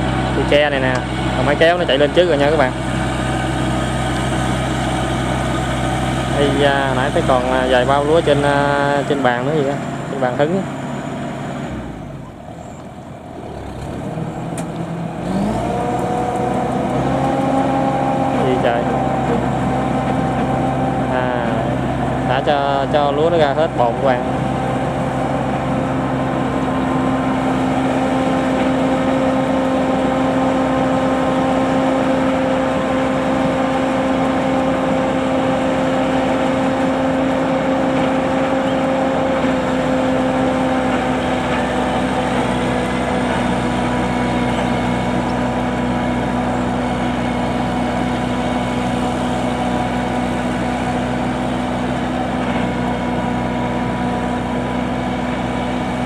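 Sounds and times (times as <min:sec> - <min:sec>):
combine harvester engine running: 0:00.0 - 0:56.0.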